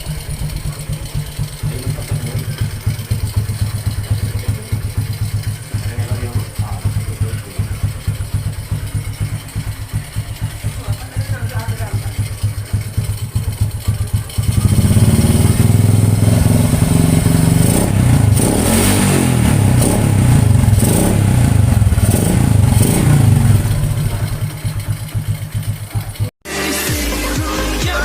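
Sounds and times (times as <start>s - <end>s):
motorcycle engine popping and revving: 0.0s - 26.4s.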